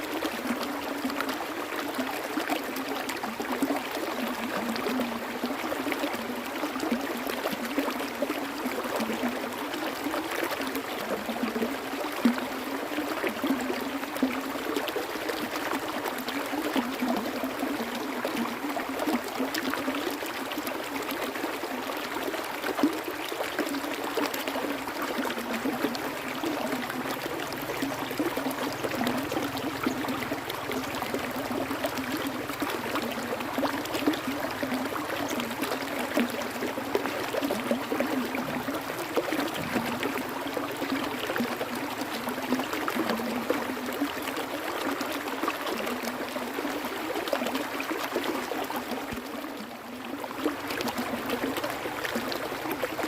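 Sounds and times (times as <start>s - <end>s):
stream water bubbling: 0.0s - 53.0s.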